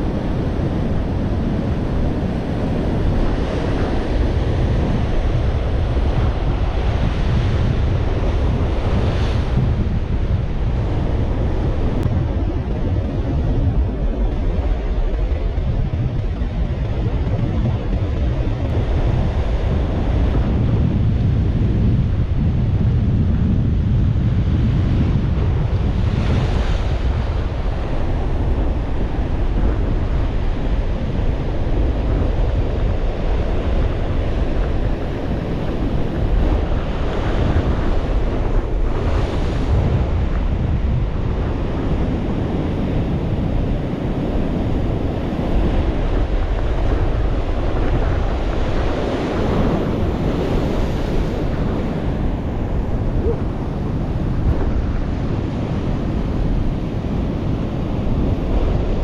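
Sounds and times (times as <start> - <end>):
surf breaking on a beach: 0.0 - 59.0
wind rumbling on microphone: 0.0 - 59.0.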